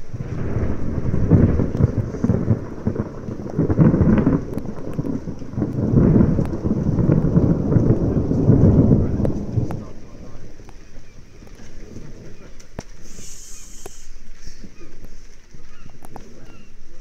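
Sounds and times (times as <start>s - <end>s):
rain falling: 0.0s - 17.0s
thunder rumbling: 0.0s - 17.0s.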